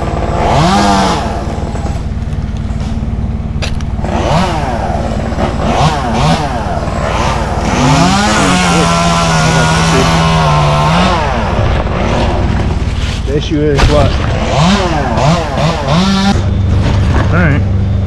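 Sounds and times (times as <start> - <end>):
chainsaw revving: 0.0 - 3.1, 3.9 - 12.9, 13.8 - 16.5.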